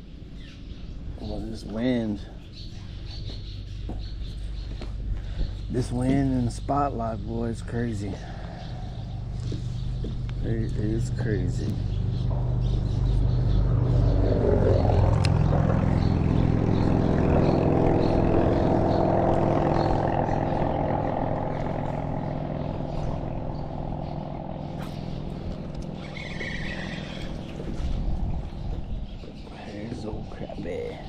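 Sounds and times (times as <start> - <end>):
engine passing by: 3.2 - 31.0.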